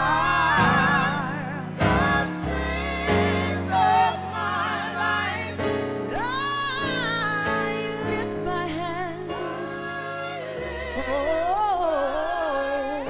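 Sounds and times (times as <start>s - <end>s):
gospel group singing in harmony: 0.0s - 13.0s.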